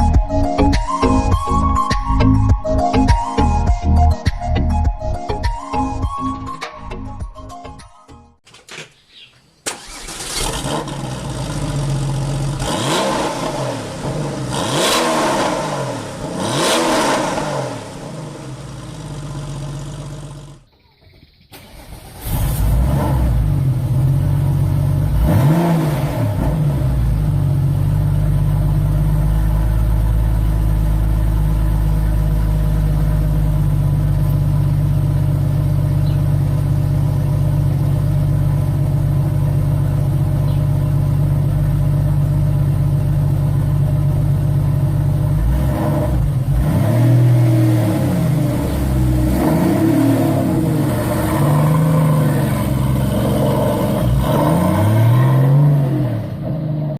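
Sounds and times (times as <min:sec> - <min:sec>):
car engine idling and revving: 0:00.0 - 0:06.5, 0:09.7 - 0:20.7, 0:21.6 - 0:56.9.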